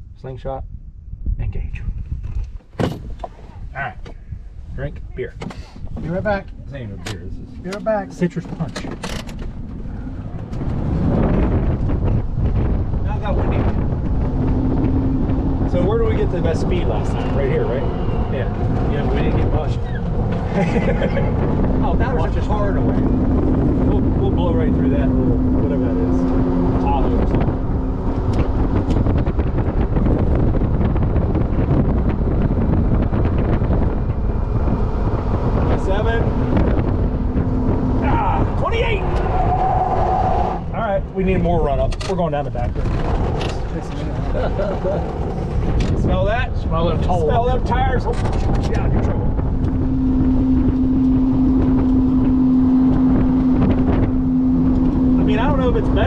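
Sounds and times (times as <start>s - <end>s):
wind buffeting microphone: 0.0s - 56.0s
tyre and road noise: 1.9s - 56.0s.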